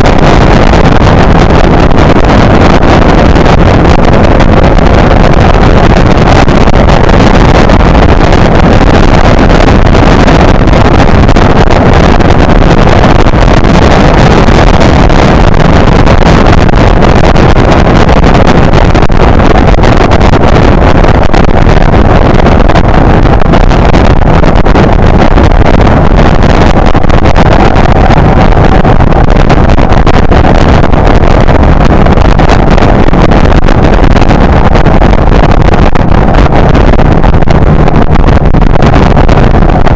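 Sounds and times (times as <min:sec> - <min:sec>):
motorcycle engine and wind rush: 0:00.0 - 0:39.9.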